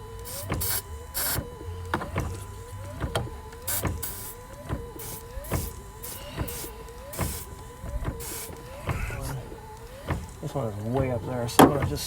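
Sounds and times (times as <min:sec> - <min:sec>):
wiper motor whine: 0:00.0 - 0:12.0
wiper linkage knock: 0:00.4 - 0:12.0.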